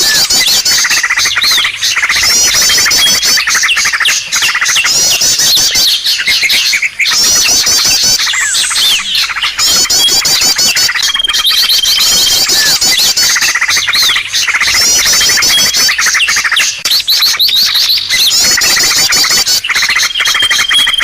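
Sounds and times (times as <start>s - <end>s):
many small birds calling: 0.0s - 21.0s.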